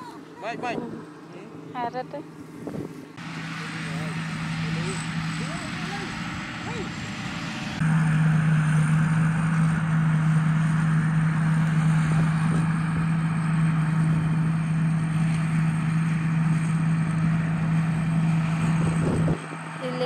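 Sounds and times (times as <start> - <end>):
harvester engine humming: 0.0 - 20.0
machinery whirring: 3.0 - 20.0.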